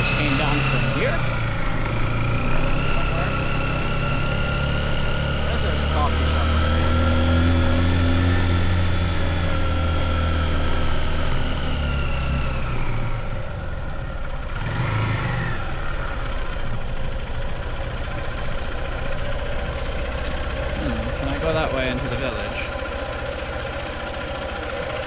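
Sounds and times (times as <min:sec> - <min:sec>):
motorbike engine running: 0:00.0 - 0:25.0.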